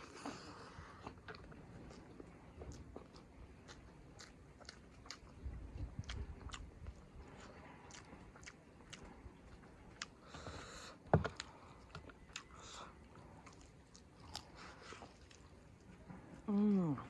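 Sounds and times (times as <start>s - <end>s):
chewing and biting food: 0.0s - 16.5s.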